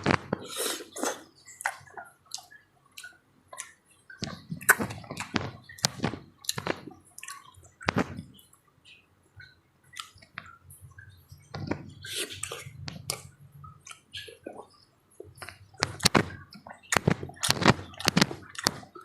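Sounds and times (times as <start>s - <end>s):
wet chewing: 0.0s - 8.6s, 9.4s - 19.0s
lip smacks: 0.3s - 8.3s, 9.9s - 19.0s.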